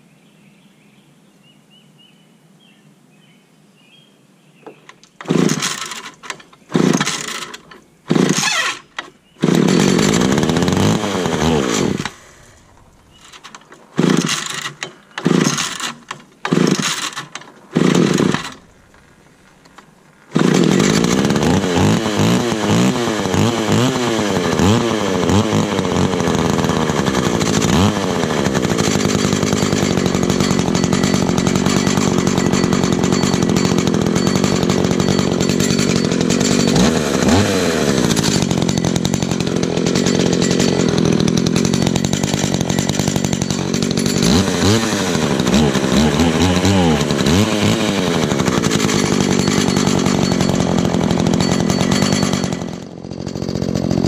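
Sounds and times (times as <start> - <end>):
chainsaw engine revving: 4.7 - 54.0.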